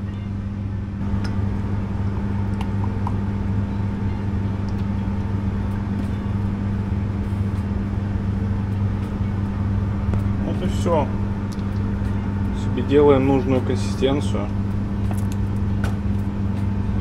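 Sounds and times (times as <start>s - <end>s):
low hum of ship machinery: 0.0s - 17.0s.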